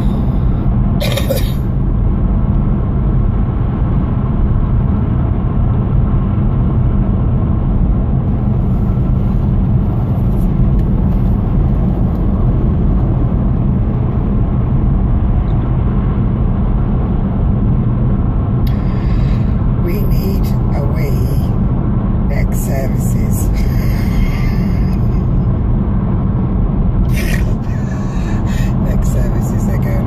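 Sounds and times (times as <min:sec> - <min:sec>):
car cabin road and engine drone: 0:00.0 - 0:30.0.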